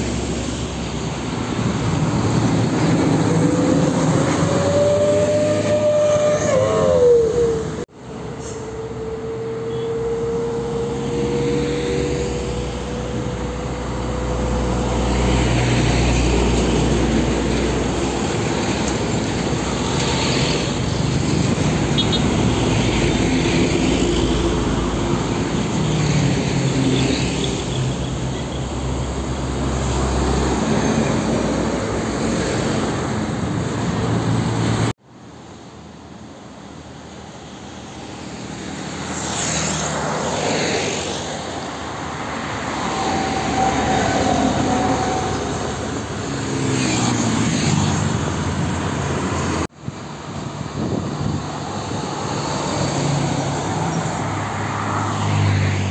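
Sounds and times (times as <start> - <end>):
heavy trucks passing: 0.0 - 35.2, 35.9 - 55.9.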